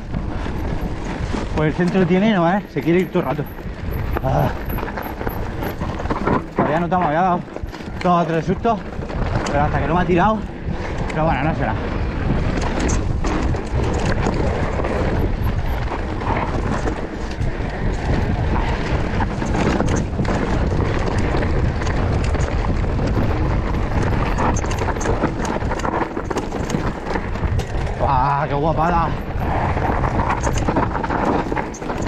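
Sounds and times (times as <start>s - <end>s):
bike knocks and rattles: 0.0s - 32.0s
bike tyres on rocky trail: 0.0s - 32.0s
wind rushing over microphone: 0.0s - 32.0s.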